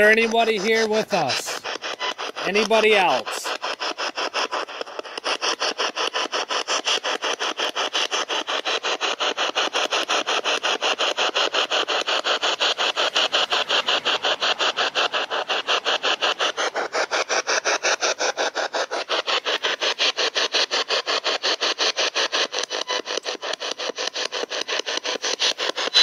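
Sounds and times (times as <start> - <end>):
radio static chopped into bursts: 0.0 - 26.0.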